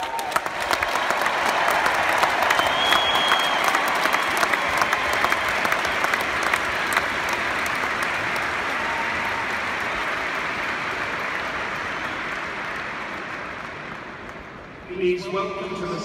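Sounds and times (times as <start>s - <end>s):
stadium crowd applauding: 0.0s - 15.0s.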